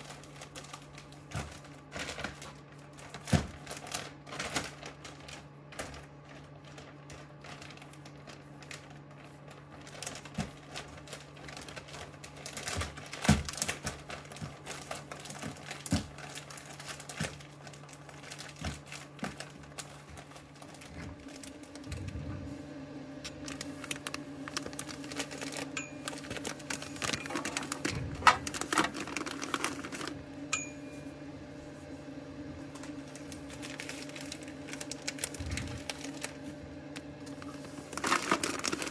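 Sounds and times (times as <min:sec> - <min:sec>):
plastic bags crinkling and rustling: 0:00.0 - 0:30.3, 0:32.5 - 0:38.9
steady low hum: 0:00.0 - 0:38.9.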